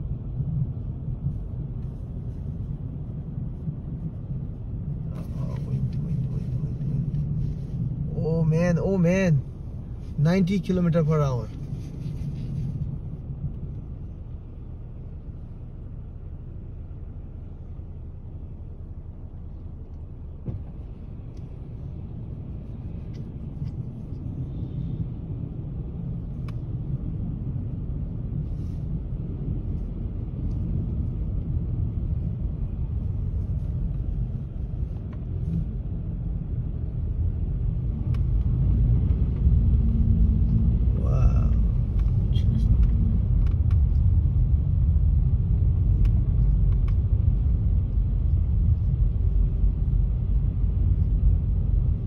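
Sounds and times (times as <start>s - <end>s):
car rumble from inside cabin: 0.0s - 52.0s.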